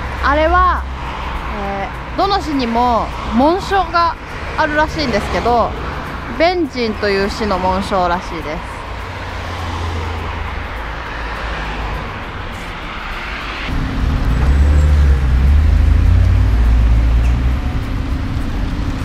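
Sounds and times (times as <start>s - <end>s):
low engine rumble: 0.0s - 19.0s
vehicles passing with tyre hiss: 0.0s - 19.0s.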